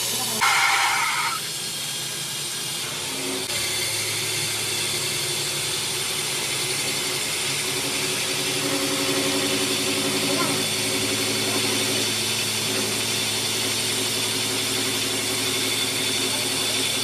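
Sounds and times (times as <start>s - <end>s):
grinder wheel grinding steel: 2.8s - 17.0s
motor hum: 2.8s - 17.0s.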